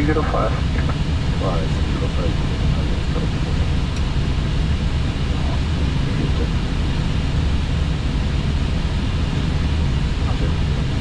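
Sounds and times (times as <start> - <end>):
deep low rumble: 0.0 - 11.0.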